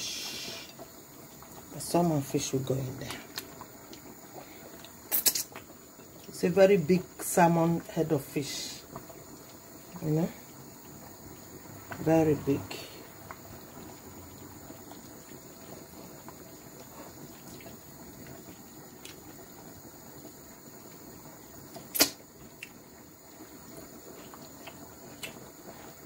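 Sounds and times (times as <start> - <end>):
soup bubbling in a pot: 0.0 - 26.0.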